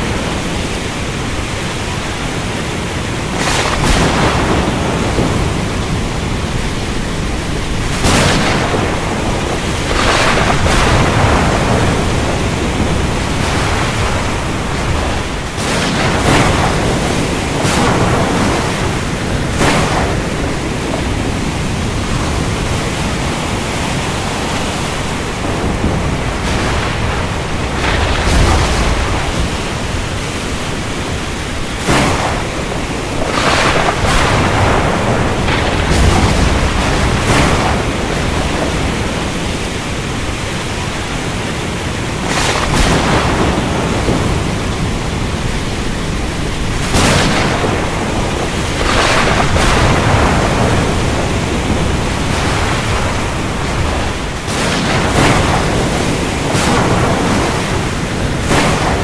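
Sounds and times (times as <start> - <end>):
low thunder rumble: 0.0 - 59.0
rain and sea rushing: 0.0 - 59.0.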